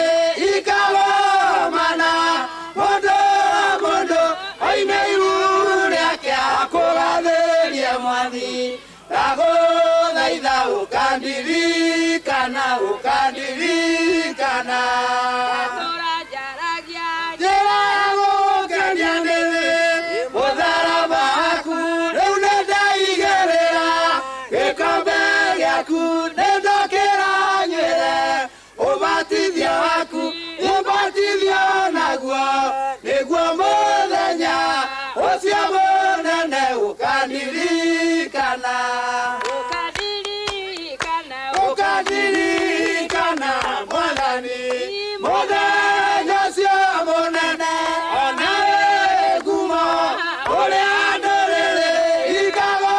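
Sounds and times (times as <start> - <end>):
mixed choir singing gospel: 0.0 - 52.9.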